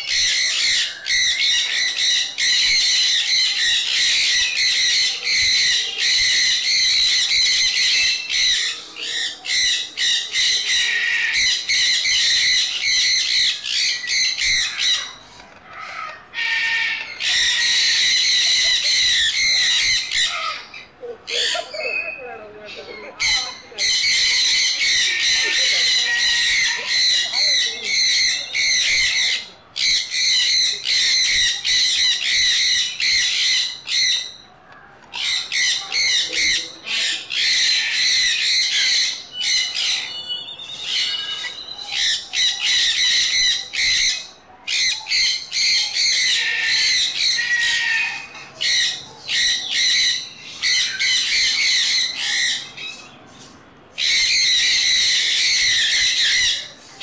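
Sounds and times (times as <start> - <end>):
parrots screeching: 0.0 - 34.4, 35.1 - 57.0.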